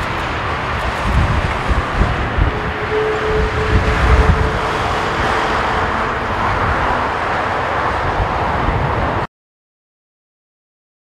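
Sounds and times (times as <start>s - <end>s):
jet engines running: 0.0s - 9.3s
wind buffeting microphone: 0.0s - 9.3s.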